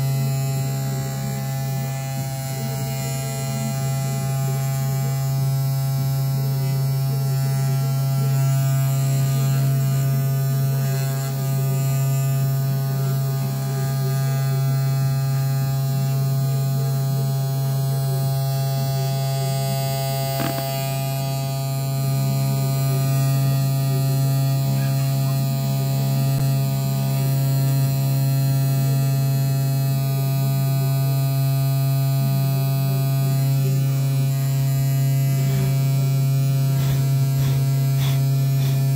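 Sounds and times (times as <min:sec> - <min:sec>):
spindle motor buzzing: 0:00.0 - 0:29.0, 0:31.5 - 0:38.9.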